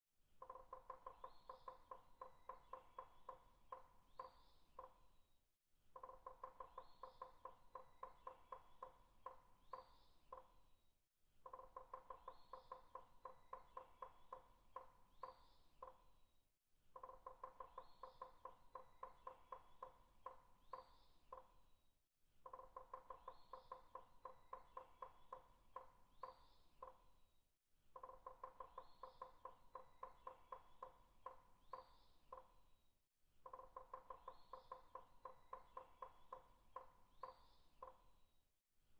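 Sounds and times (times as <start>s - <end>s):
bird chirps: 0.4s - 5.2s, 6.0s - 10.7s, 11.4s - 16.2s, 17.0s - 21.8s, 22.4s - 27.3s, 28.0s - 32.8s, 33.4s - 38.4s.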